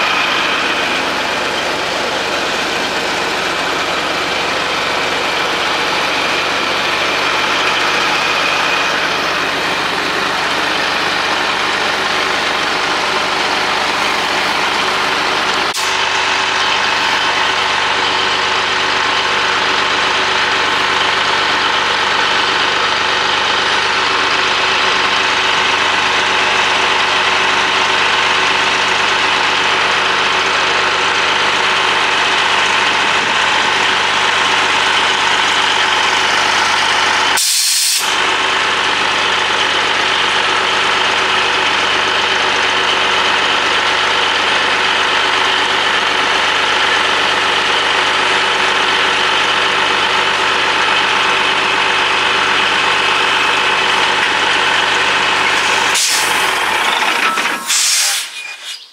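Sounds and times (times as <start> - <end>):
diesel truck engine running: 0.0 - 58.3.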